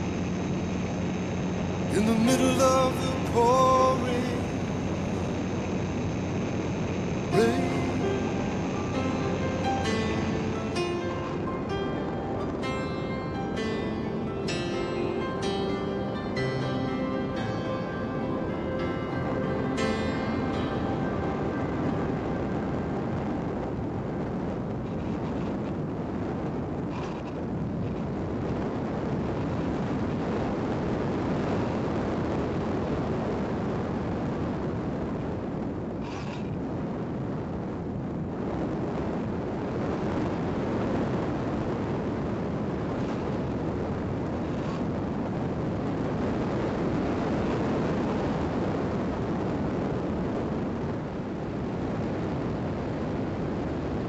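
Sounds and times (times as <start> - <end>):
rushing airflow noise: 0.0 - 54.0.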